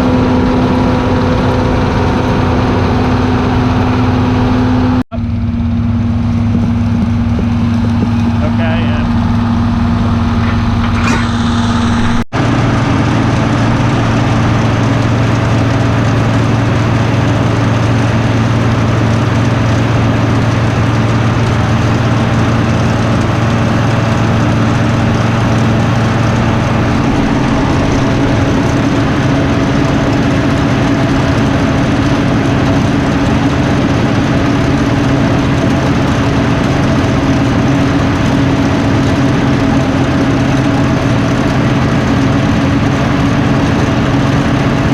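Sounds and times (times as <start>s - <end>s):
diesel harvester engine running: 0.0s - 44.9s.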